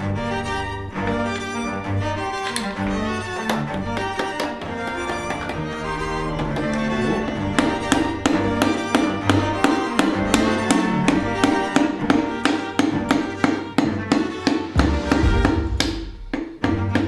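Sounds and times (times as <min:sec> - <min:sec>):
string instrument music: 0:00.0 - 0:17.0.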